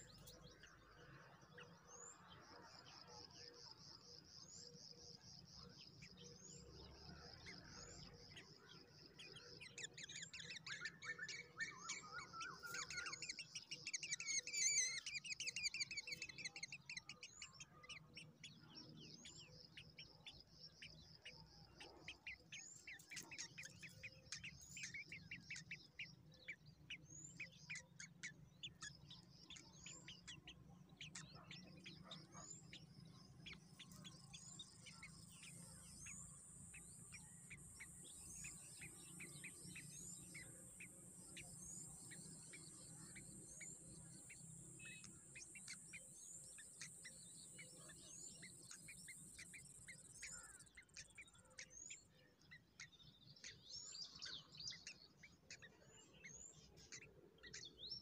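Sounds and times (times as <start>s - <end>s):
faint bird chirping: 0.0s - 58.0s.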